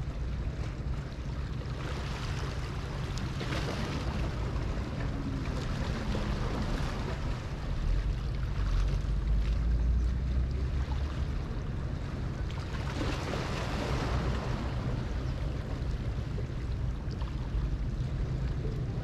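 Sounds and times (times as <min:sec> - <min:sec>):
waves washing: 0:00.0 - 0:19.0.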